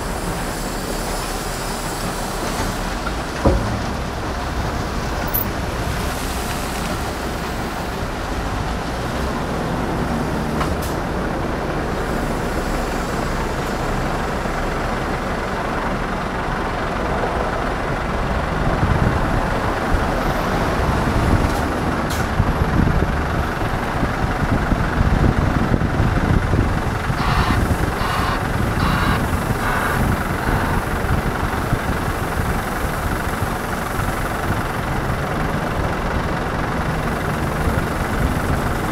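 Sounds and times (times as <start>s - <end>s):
heavy diesel engines rumbling: 0.0s - 38.9s.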